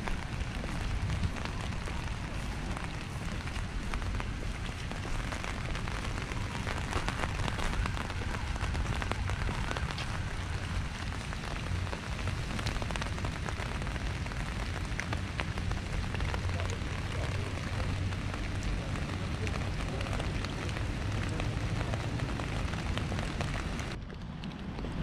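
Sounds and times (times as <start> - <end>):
steady rain on wet paving: 0.0 - 25.0.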